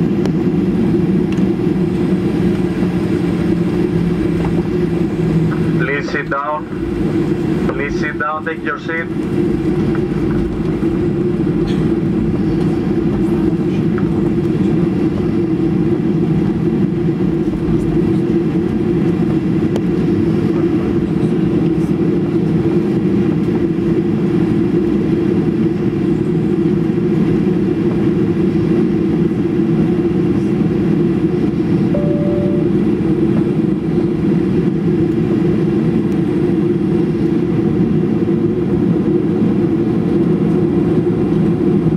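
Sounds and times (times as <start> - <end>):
jet engines droning in cabin: 0.0 - 41.9.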